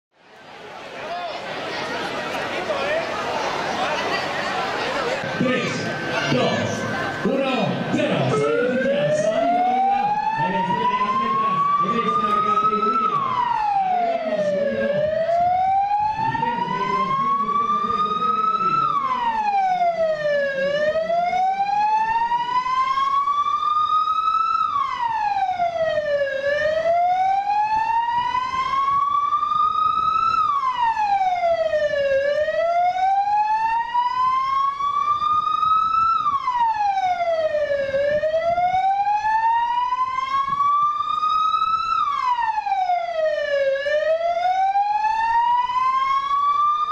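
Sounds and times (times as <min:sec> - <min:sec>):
vehicle siren wailing: 0:04.9 - 0:46.9.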